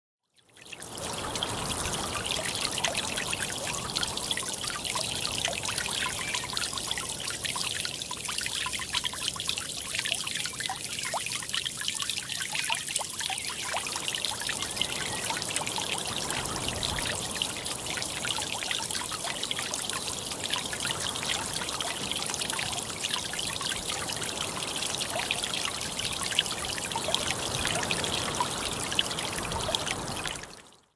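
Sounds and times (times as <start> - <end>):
creek splashing over rocks: 0.5 - 30.8.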